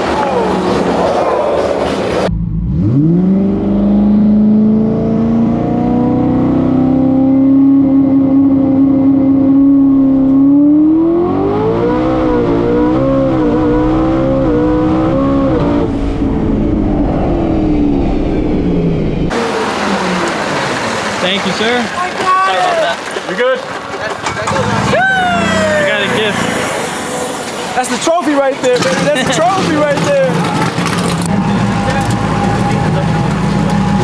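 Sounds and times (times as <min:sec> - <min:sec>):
truck engine revving hard: 0:00.0 - 0:23.2, 0:23.8 - 0:34.0.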